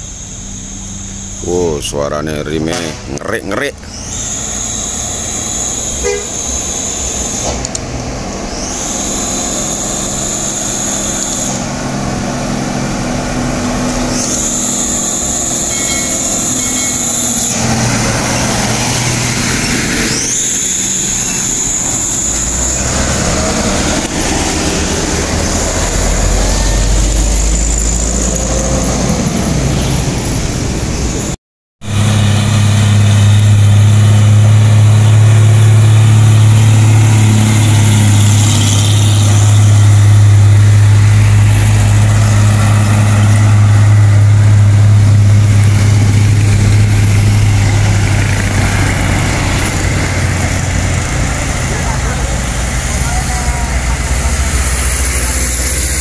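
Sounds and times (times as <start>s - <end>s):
diesel truck engine passing: 0.0s - 56.0s
high-pitched squeal: 0.0s - 56.0s
truck engine hum: 0.0s - 56.0s.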